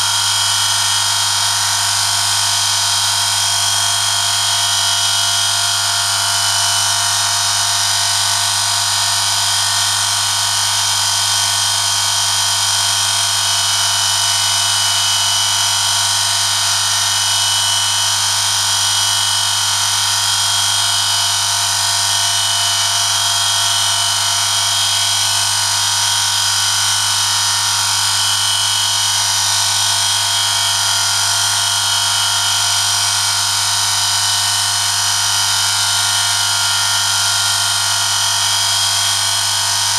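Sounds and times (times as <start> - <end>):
high-pitched metal rubbing whine: 0.0 - 10.7, 11.6 - 39.9.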